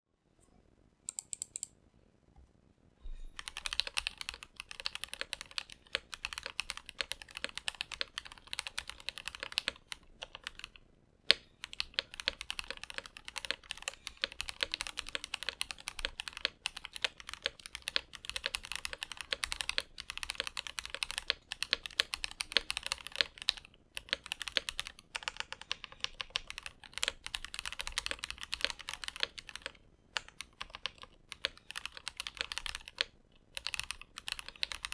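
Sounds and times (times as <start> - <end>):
mechanical keyboard typing: 1.1 - 1.7, 3.4 - 34.9.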